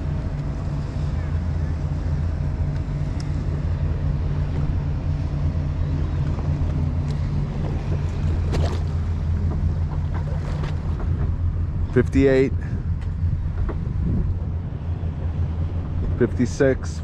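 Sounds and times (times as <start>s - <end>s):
outboard engine idling: 0.0s - 17.0s
water around hull: 0.0s - 17.0s
wind on microphone: 3.4s - 17.0s.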